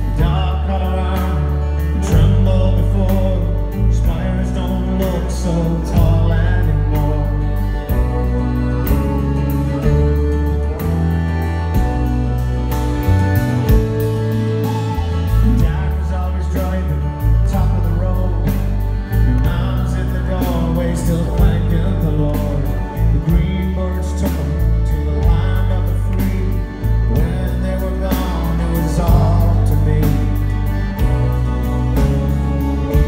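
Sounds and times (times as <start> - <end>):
man singing: 0.0 - 10.8, 13.7 - 33.0
live band playing pop song: 0.0 - 33.0.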